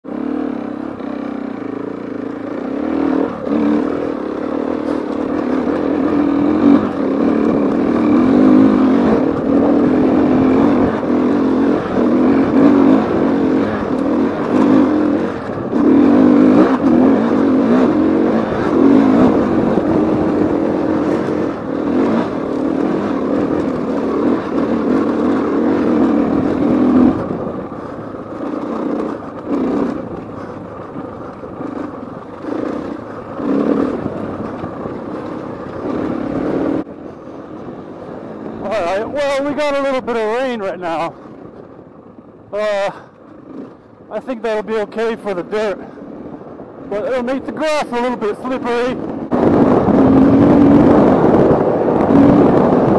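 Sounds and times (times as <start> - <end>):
motorcycle engine revving under load: 0.0 - 52.9.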